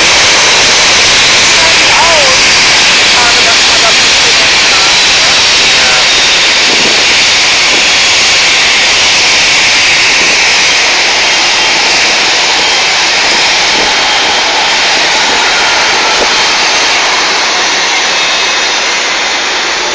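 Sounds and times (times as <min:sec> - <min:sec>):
faint engine whine: 0:00.0 - 0:19.9
jet airliner engines roaring: 0:00.0 - 0:19.9.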